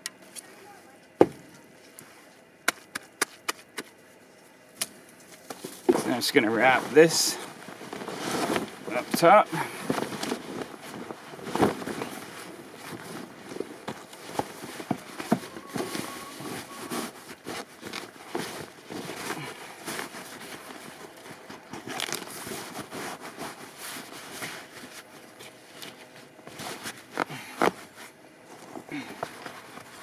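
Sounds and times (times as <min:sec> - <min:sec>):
fabric rustling: 0:05.4 - 0:30.0.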